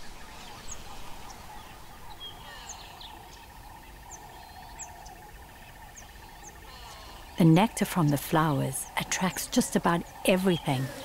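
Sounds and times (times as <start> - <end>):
insect hum: 0.0 - 11.0.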